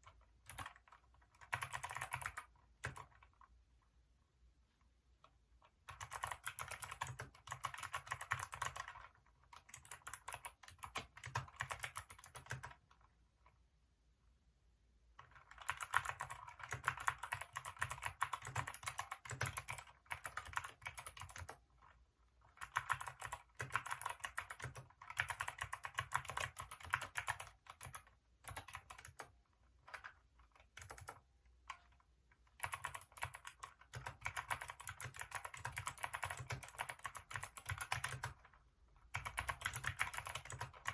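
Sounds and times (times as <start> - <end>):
mechanical keyboard typing: 0.0 - 3.4, 5.8 - 13.0, 15.2 - 40.9.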